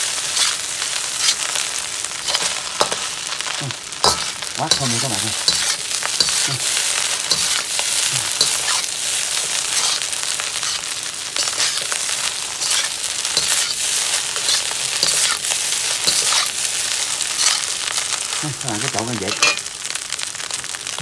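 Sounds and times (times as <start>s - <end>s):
rice sizzling in a wok: 0.0s - 21.0s
metal spatula scraping pan: 0.2s - 1.6s, 2.2s - 17.9s, 19.3s - 19.7s.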